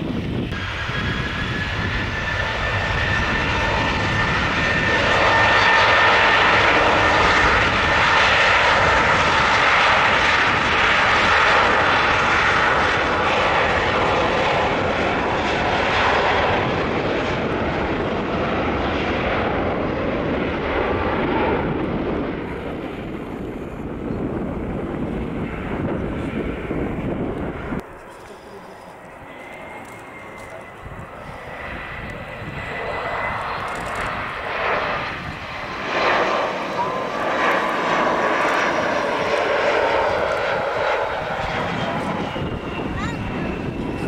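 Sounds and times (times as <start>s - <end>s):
jet engines at takeoff: 0.0s - 44.0s.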